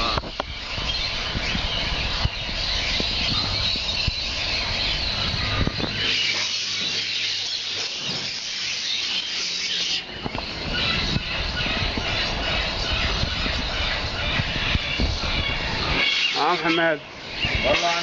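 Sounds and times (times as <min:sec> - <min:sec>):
cage birds chirping: 0:00.0 - 0:18.0.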